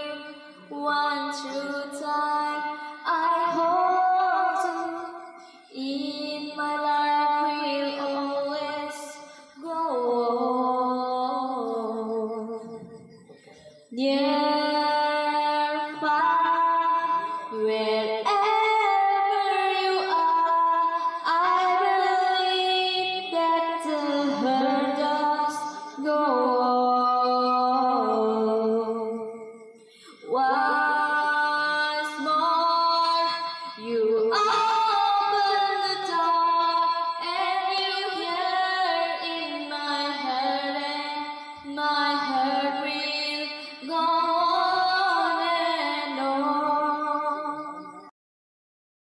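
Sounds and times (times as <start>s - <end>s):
woman singing into microphone: 0.0s - 13.2s, 13.9s - 48.1s.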